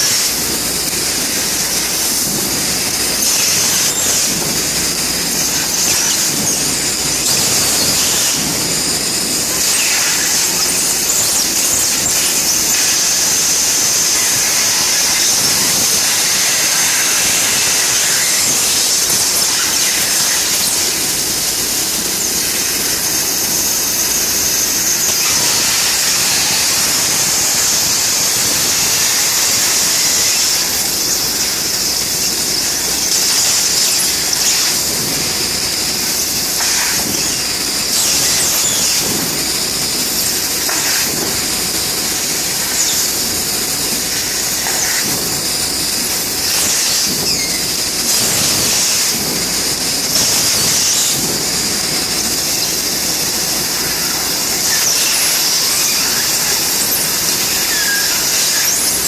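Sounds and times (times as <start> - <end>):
laser cutter loud hiss: 0.0 - 59.0
short high squeals: 0.0 - 59.0.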